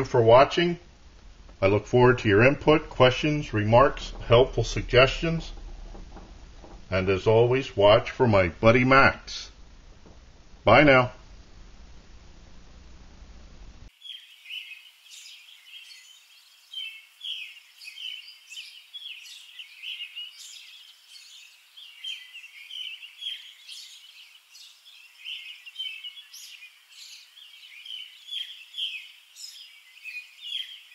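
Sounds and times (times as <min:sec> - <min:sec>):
songbirds chirping: 0:00.0 - 0:30.9.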